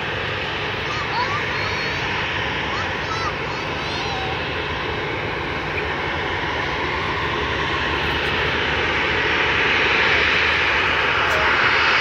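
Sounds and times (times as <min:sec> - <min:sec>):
airliner engines rushing: 0:00.0 - 0:12.0.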